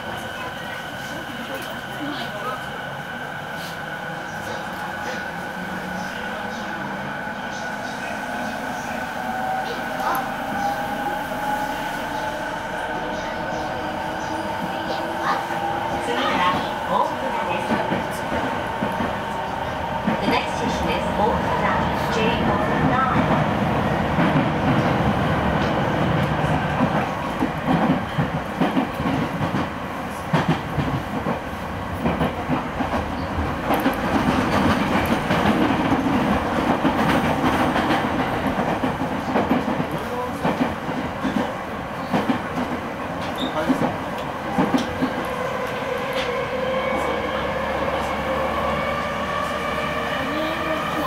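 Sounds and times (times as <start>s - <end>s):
train rumble: 0.0s - 51.0s.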